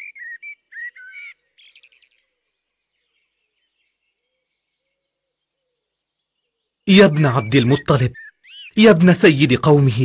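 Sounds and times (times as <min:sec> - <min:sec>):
soft bird trill: 0:00.0 - 0:09.8.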